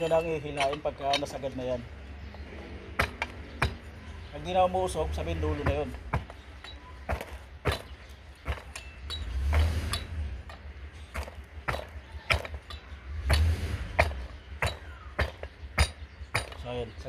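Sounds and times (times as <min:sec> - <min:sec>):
sharp metallic knocks: 0:00.0 - 0:01.6, 0:02.3 - 0:04.0, 0:05.2 - 0:17.0.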